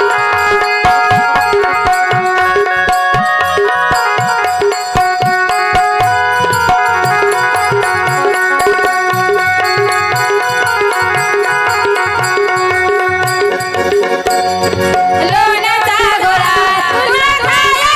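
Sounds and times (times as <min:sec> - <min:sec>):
held melody notes: 0:00.0 - 0:17.9.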